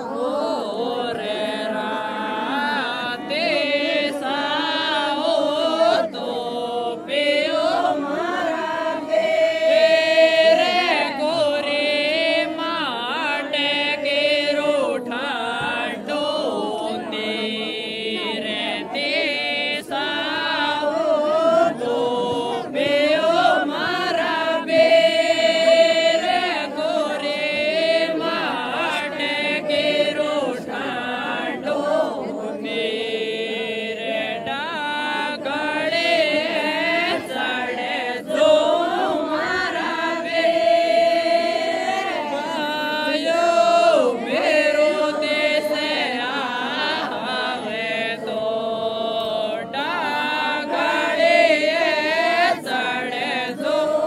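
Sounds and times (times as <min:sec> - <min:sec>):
women singing folk song: 0:00.0 - 0:54.0.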